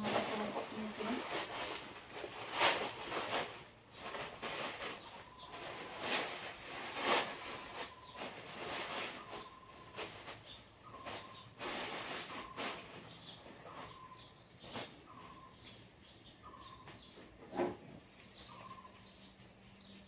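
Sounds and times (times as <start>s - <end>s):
plastic and paper rustling: 0.0s - 20.0s.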